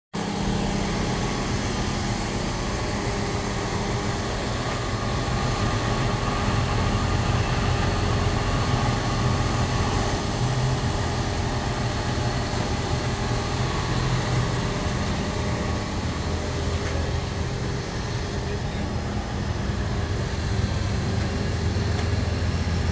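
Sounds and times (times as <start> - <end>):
truck engine humming: 0.2 - 22.9.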